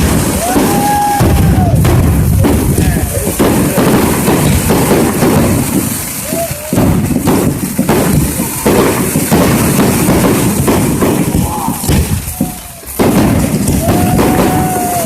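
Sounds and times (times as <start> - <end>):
fireworks crackling: 0.0 - 15.0
fireworks thuds and booms: 0.0 - 15.0
whistling fireworks: 0.0 - 15.0.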